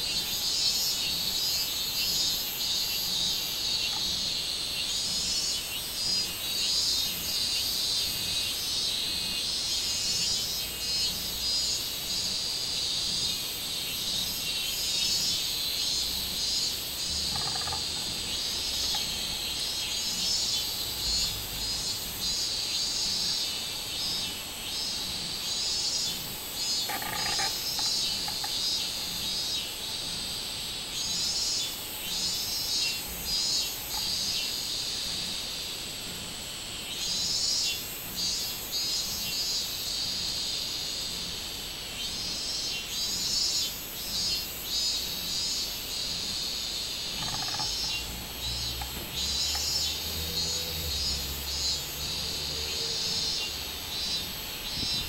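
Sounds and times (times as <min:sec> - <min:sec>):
cicadas pulsing buzz: 0:00.0 - 0:55.0.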